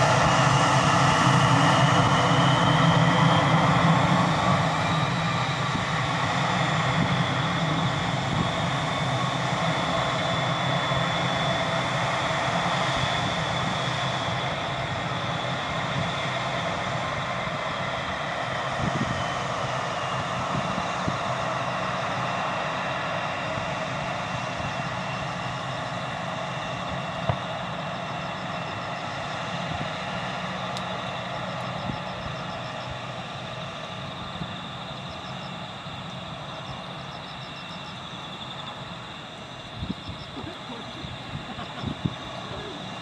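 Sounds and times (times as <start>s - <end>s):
jet engines whining: 0.0s - 43.0s.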